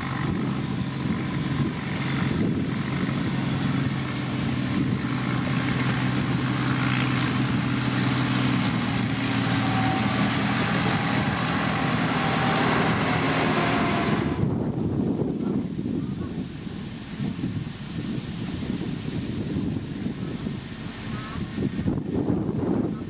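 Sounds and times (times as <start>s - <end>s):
heavy machine diesel engine running: 0.0s - 23.0s.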